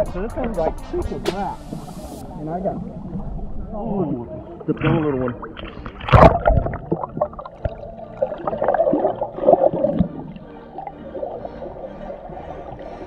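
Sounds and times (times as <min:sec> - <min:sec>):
muffled underwater sloshing: 0:00.5 - 0:13.0.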